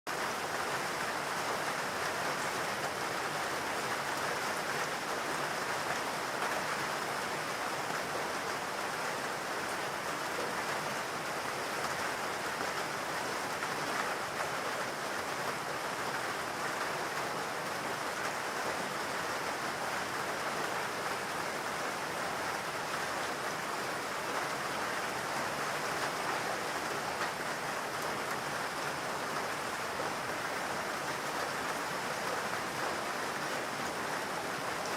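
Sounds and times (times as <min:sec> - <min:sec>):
steady rain patter: 0:00.1 - 0:34.9.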